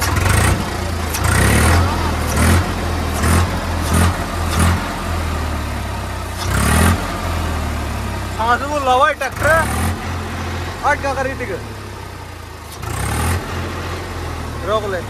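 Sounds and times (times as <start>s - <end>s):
tractor diesel engine revving: 0.0s - 15.0s.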